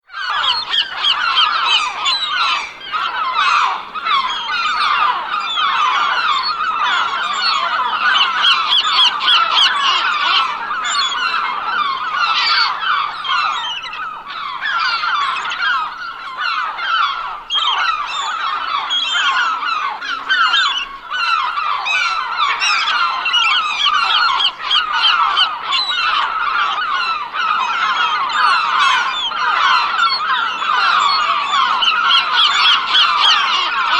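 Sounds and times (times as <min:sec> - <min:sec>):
flock of gulls calling: 0:00.0 - 0:33.9.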